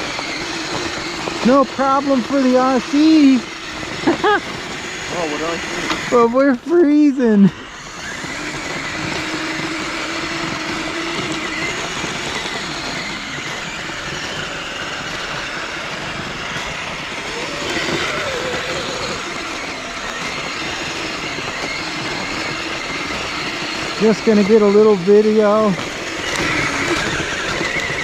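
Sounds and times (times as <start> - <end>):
electric motor and gear whine: 0.0 - 28.0
rushing noise through snow: 0.0 - 28.0.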